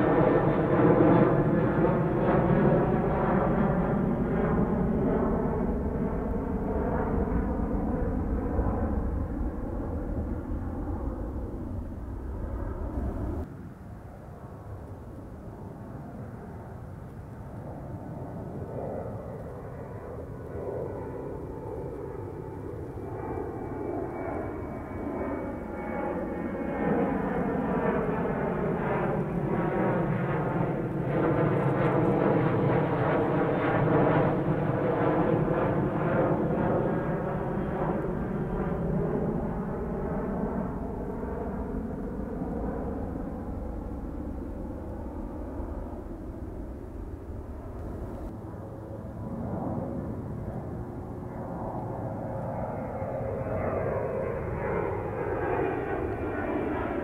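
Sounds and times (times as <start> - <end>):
jet airliner passing overhead: 0.0 - 57.0.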